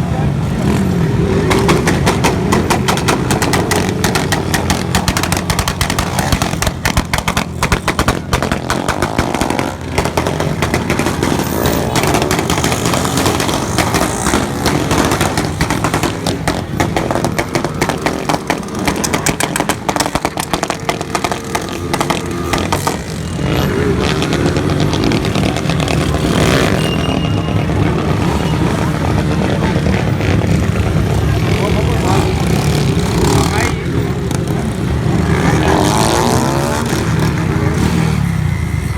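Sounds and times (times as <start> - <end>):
crackling exhaust: 0.0 - 38.9
motorcycle engine running: 0.0 - 38.9.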